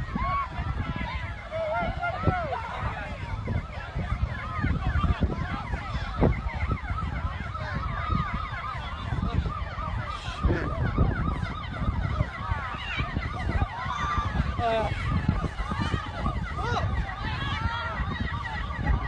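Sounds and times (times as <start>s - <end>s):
emergency vehicle sirens wailing: 0.0s - 19.0s.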